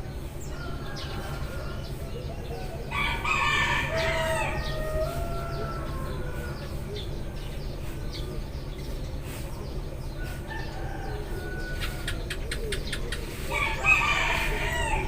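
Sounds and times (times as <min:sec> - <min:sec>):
chickens clucking: 0:00.0 - 0:15.0
sparrows chirping: 0:00.0 - 0:15.0
steady low hum: 0:00.0 - 0:15.0.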